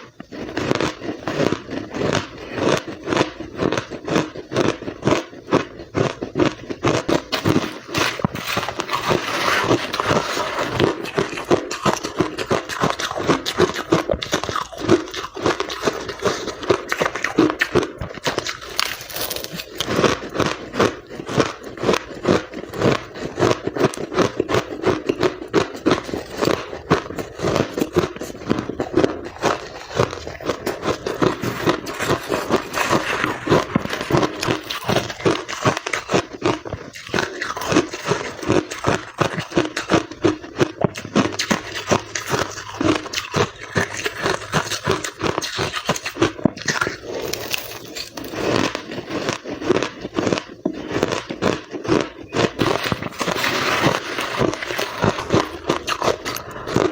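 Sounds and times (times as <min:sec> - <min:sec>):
ice being chewed: 0:00.0 - 0:56.9.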